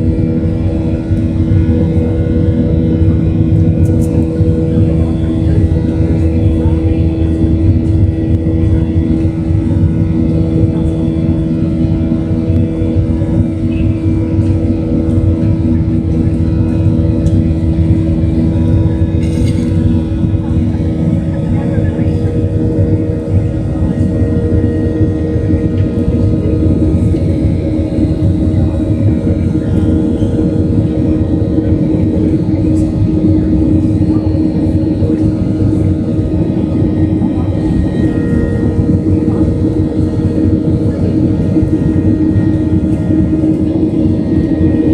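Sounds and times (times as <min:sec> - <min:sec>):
jet engines droning in cabin: 0:00.0 - 0:44.9.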